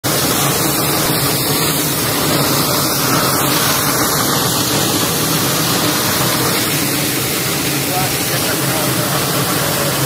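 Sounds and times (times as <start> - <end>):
confetti blower fan rushing air: 0.0 - 10.0.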